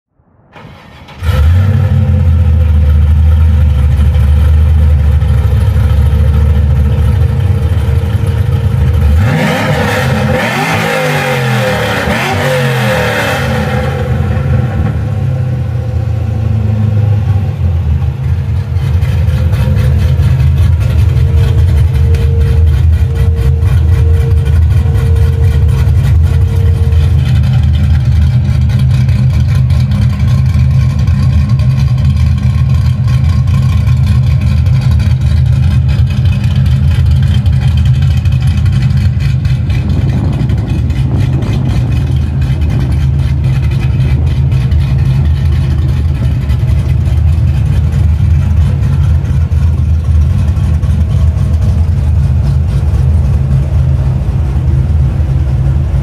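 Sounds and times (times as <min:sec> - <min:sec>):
car engine idling and revving: 0:00.2 - 0:56.0.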